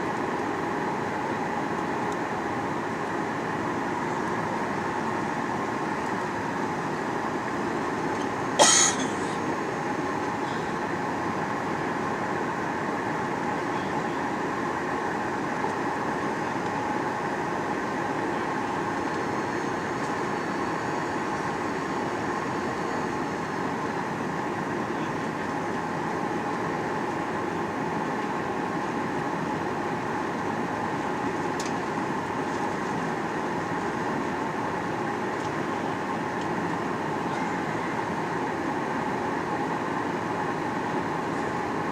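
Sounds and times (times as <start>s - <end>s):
jet engine cabin noise: 0.0s - 41.9s.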